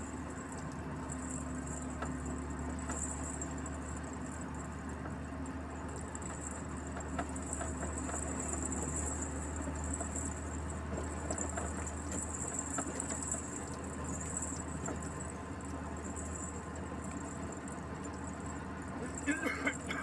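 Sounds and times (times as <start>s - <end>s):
light ticks and rattles: 0.0s - 20.0s
road noise: 0.0s - 20.0s
truck engine drone: 0.0s - 20.0s.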